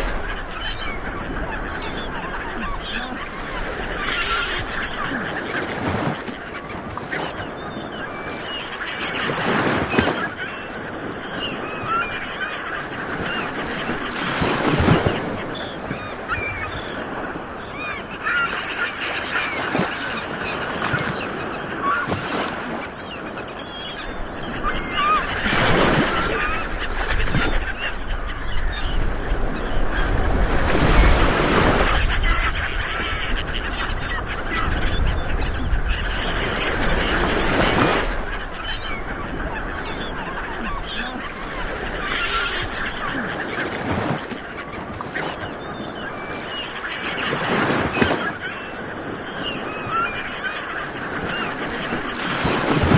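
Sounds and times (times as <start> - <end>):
flock of birds chattering: 0.0 - 52.9
waves washing onto shore: 0.0 - 52.9.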